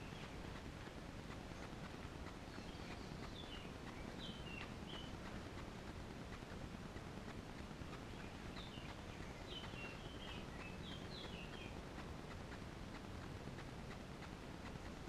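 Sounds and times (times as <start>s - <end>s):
songbird chirping: 0.0s - 6.5s, 7.2s - 14.0s
faint background noise: 0.0s - 15.0s
light ticks: 0.0s - 15.0s.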